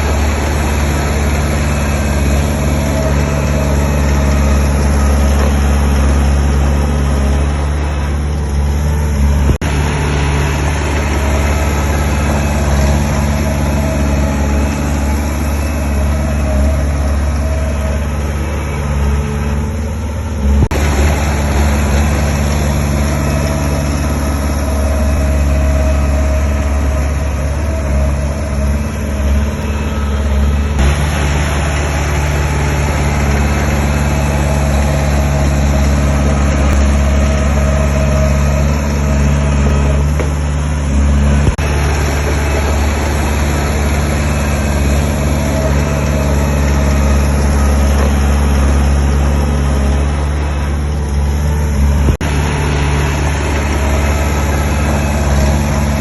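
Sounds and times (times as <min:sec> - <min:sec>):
heavy machine engine humming: 0:00.0 - 0:56.0.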